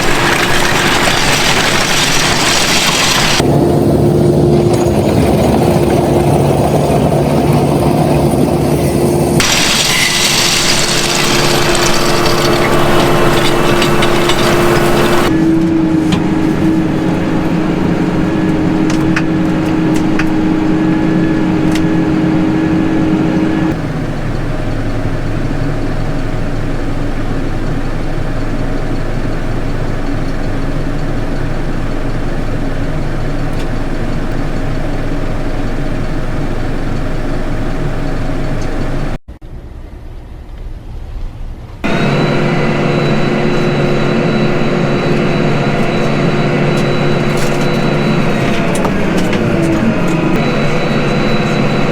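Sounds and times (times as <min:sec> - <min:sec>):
tractor engine running: 0:00.0 - 0:39.2, 0:41.8 - 0:51.9
steady whine: 0:00.0 - 0:40.4, 0:41.7 - 0:51.9.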